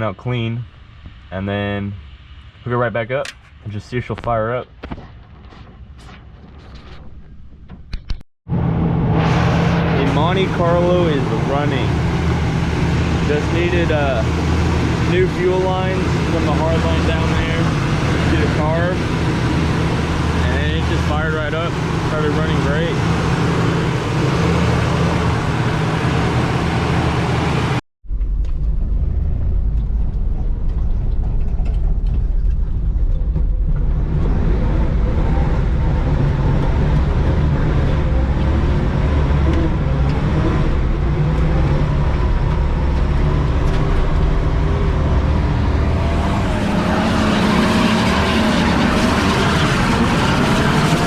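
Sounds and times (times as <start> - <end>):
car engine running: 8.5 - 51.0.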